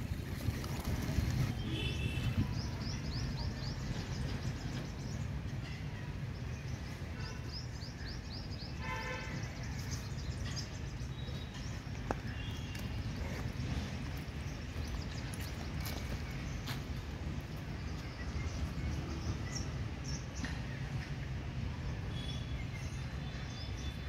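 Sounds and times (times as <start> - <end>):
birds chirping: 1.6 - 24.0.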